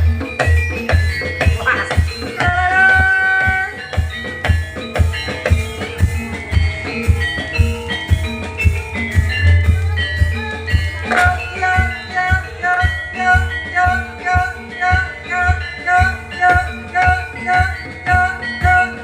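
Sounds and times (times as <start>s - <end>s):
held melodic note: 0.0s - 19.0s
percussion ensemble music: 0.0s - 19.0s.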